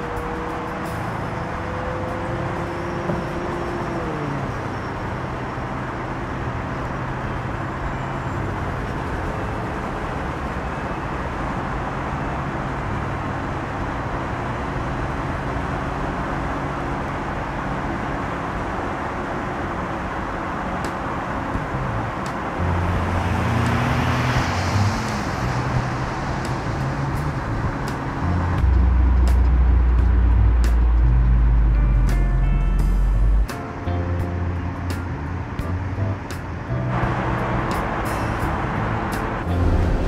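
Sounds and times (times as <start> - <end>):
car engine cruising: 0.0 - 40.0
tyre and road noise: 0.0 - 40.0.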